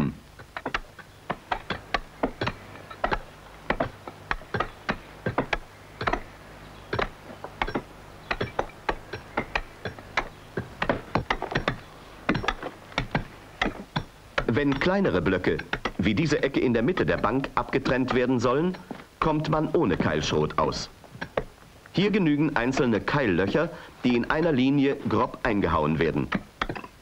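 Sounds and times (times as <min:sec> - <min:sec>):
faint low hum: 0:00.0 - 0:27.0
pick-hammers striking rock: 0:00.0 - 0:27.0.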